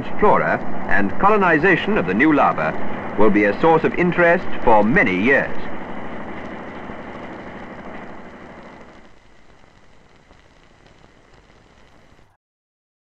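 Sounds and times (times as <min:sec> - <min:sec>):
old film soundtrack hiss: 0:00.0 - 0:12.4.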